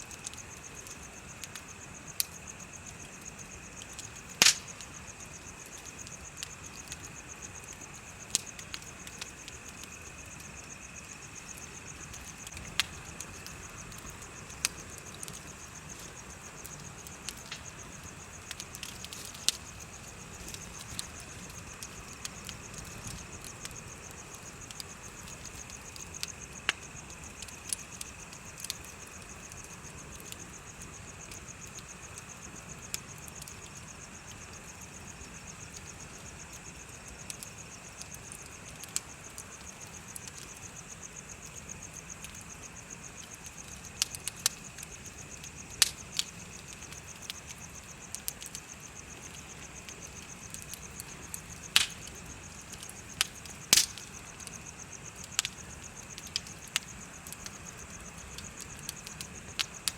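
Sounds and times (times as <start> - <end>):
bonfire crackling and popping: 0.0 - 59.9
crickets and insects trilling: 0.0 - 59.9.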